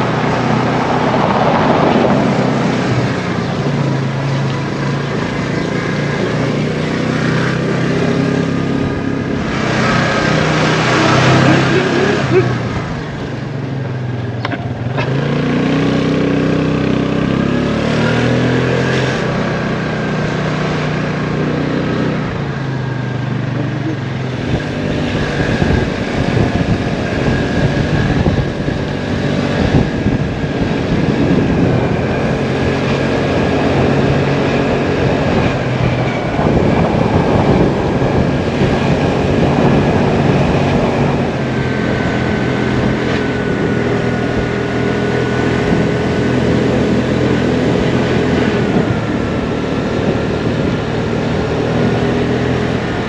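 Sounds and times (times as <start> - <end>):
road and wind noise: 0.0 - 53.0
scooter engine running: 0.0 - 53.0.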